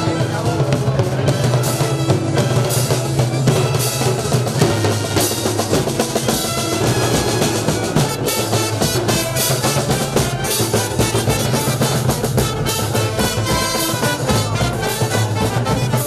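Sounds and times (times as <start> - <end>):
bass drum and snare drum: 0.0 - 16.0.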